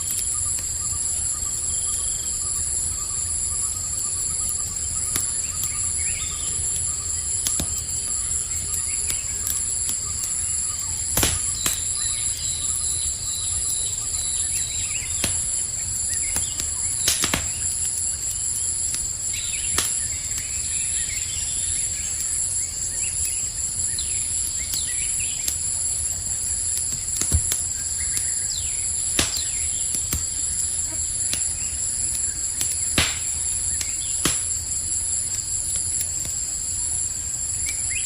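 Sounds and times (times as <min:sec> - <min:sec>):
campfire crackling and popping: 0:00.0 - 0:38.0
night insects chirping: 0:00.0 - 0:38.0.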